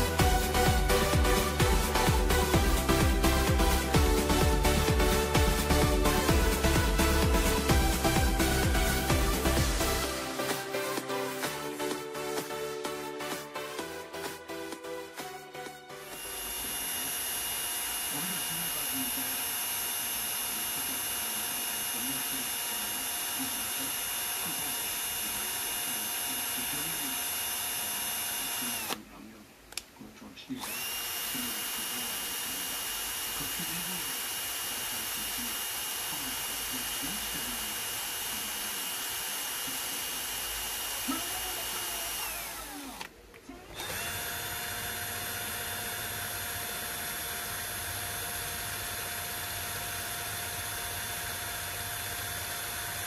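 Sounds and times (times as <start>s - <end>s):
cordless drill motor running: 0.0s - 29.1s, 30.6s - 53.0s.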